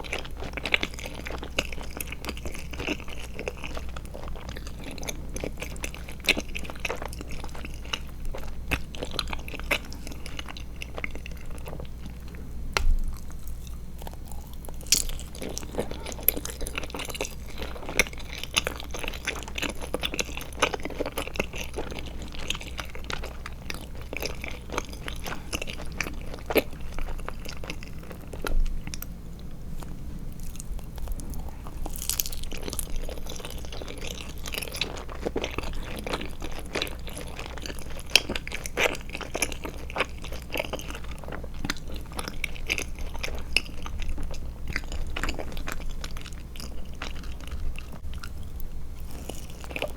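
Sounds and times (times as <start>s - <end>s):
chewing gummies close up: 0.0s - 49.9s.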